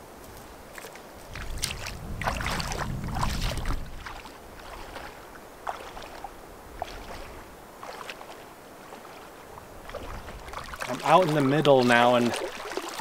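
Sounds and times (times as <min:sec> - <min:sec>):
feet splashing in water: 0:00.7 - 0:13.0.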